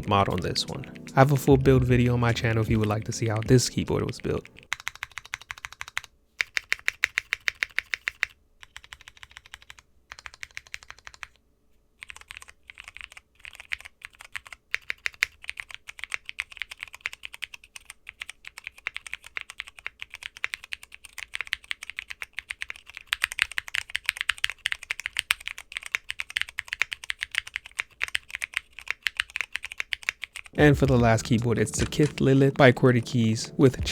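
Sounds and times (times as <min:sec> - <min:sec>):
mechanical keyboard typing: 0:00.0 - 0:11.4, 0:12.0 - 0:33.9.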